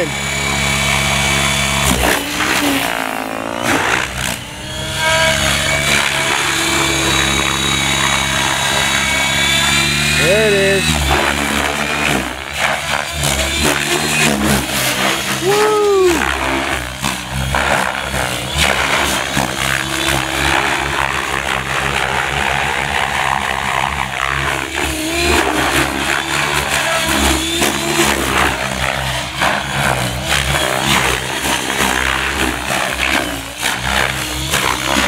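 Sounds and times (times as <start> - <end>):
helicopter rotor blade chop: 0.0 - 35.0.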